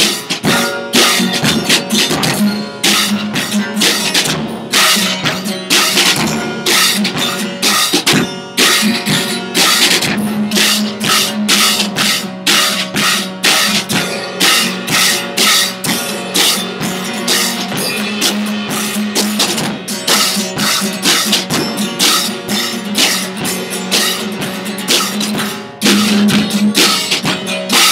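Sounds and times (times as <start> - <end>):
drum kit rock beat: 0.0 - 27.9.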